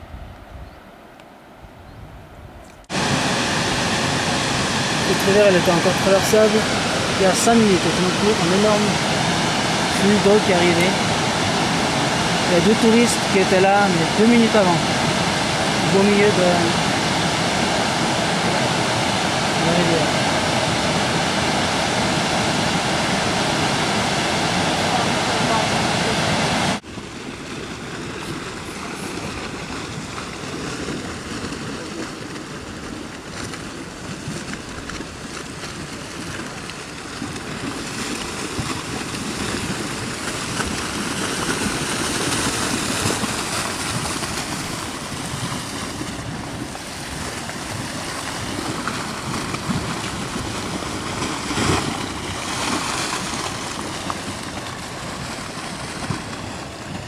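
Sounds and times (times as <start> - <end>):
wind buffeting microphone: 0.0 - 1.0, 1.6 - 57.0
flooding river rushing: 2.8 - 57.0.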